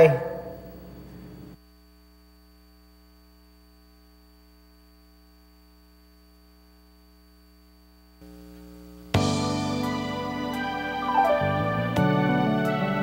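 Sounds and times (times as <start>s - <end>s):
faint electrical hum with hiss: 0.0s - 13.0s.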